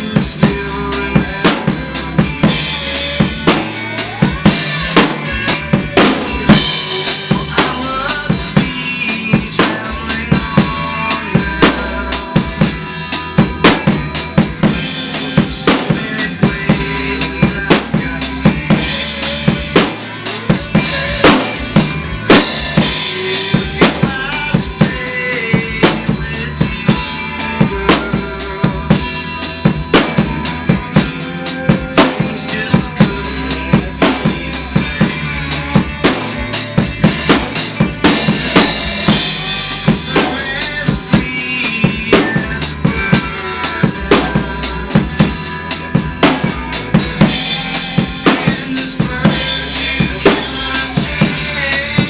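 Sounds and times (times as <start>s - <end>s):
drum kit beat: 0.0s - 52.0s
rock music: 0.0s - 52.0s.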